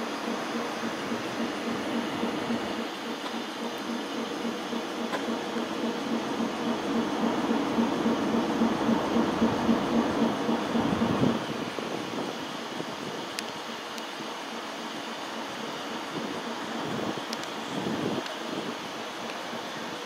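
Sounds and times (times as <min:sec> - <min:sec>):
train rumble with pulsing hum: 0:00.0 - 0:20.0.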